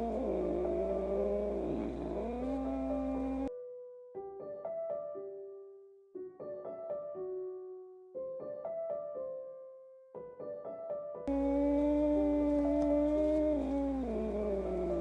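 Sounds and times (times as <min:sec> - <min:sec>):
solo piano: 0:00.0 - 0:15.0.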